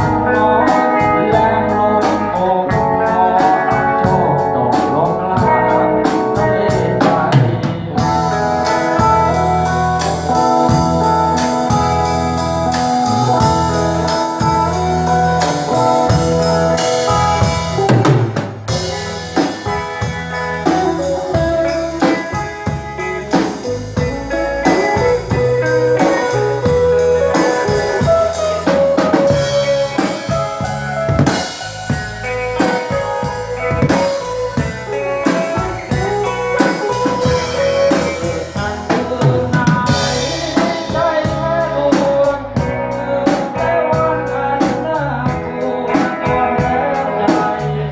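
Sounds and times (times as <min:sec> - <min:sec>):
bass: 0:00.0 - 0:47.9
drum kit beat: 0:00.0 - 0:47.9
melodic lead line: 0:00.0 - 0:47.9.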